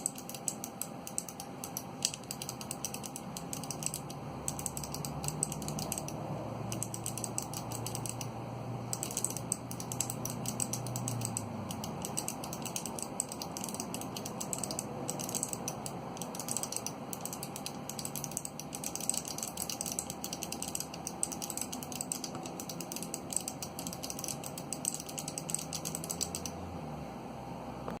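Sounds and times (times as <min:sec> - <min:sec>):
fast clicky keyboard typing: 0:00.0 - 0:26.6.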